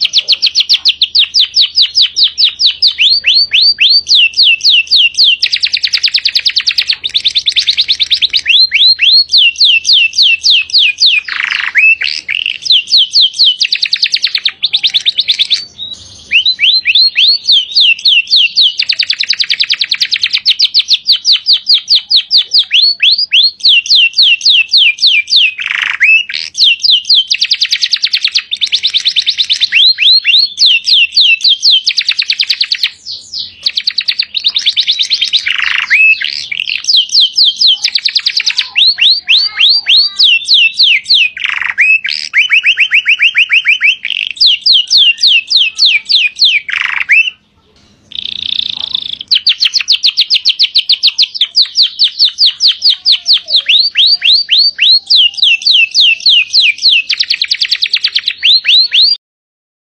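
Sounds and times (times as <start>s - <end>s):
canary singing trills: 0.0s - 59.2s.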